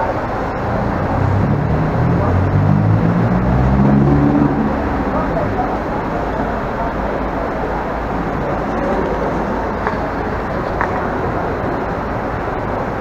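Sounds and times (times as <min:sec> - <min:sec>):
busy hall crowd rumble: 0:00.0 - 0:13.0.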